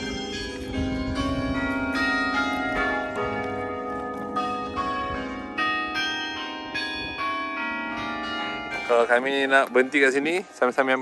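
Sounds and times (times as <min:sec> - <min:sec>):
clock-tower bells chiming a tune: 0:00.0 - 0:11.0.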